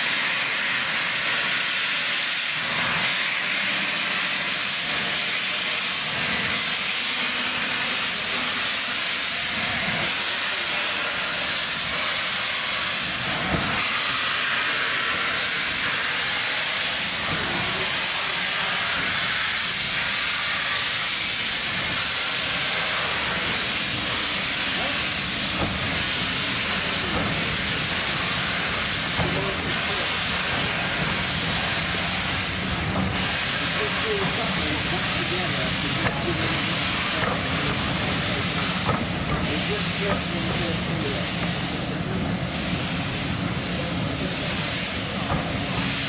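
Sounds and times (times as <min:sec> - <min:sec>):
steam hissing: 0:00.0 - 0:46.0.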